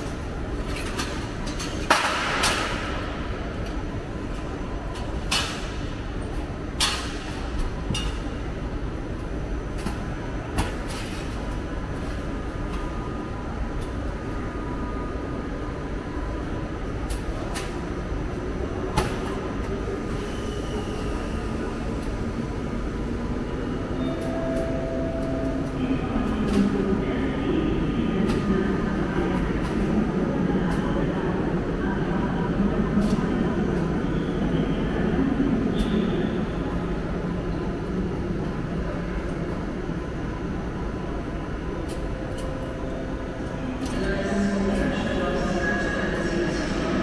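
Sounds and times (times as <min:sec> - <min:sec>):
train rumbling: 0:00.0 - 0:47.0.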